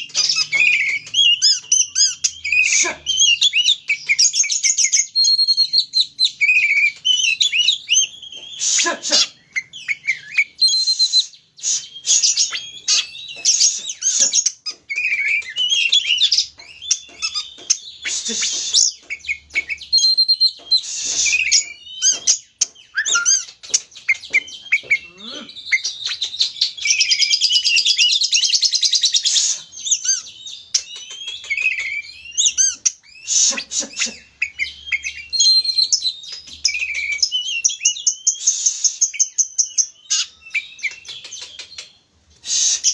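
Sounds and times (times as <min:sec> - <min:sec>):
magpie-robin singing: 0:00.0 - 0:42.9.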